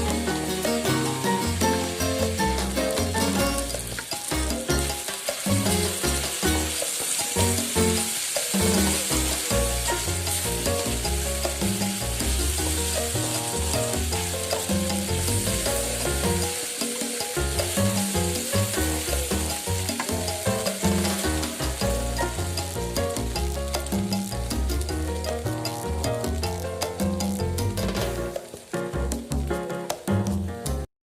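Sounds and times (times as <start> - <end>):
stirring in a pan: 0.0 - 28.9
tofu sizzling in a pan: 0.0 - 30.4
background music: 0.0 - 30.9.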